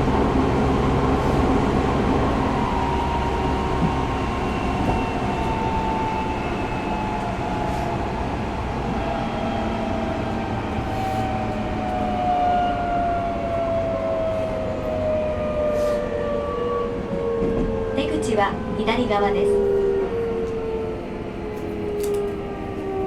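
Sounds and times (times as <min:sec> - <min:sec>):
train wheel and track rumble: 0:00.0 - 0:23.0.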